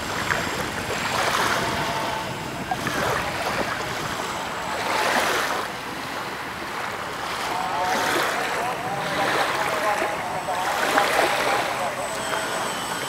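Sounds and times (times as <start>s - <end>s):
model plane electric motor whine: 0.0s - 13.0s
small waves lapping: 0.0s - 13.0s
wind: 0.0s - 13.0s.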